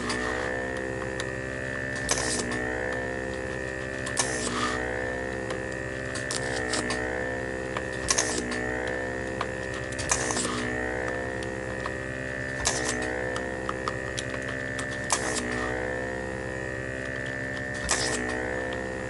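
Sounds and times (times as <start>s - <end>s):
vacuum pump humming and whining: 0.0s - 19.0s.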